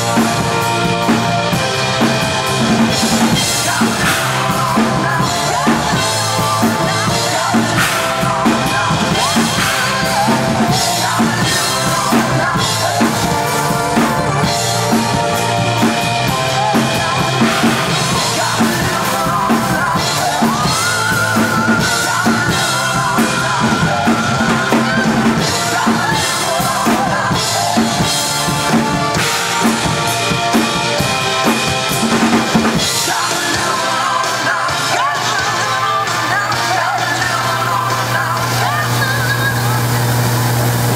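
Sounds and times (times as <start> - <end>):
drum kit playing: 0.0 - 40.9
hard rock song: 0.0 - 40.9.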